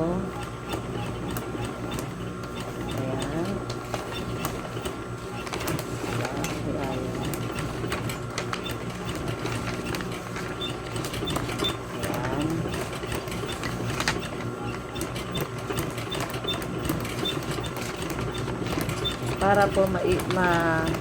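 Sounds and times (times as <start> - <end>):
sewing machine stitching: 0.0 - 21.0.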